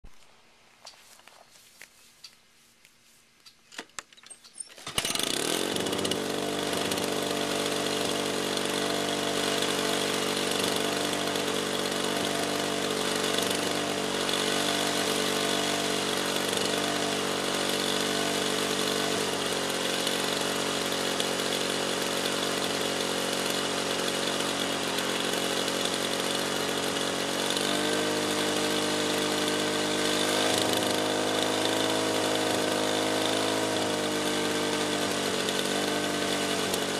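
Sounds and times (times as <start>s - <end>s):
lawn mower engine running: 4.0s - 36.9s.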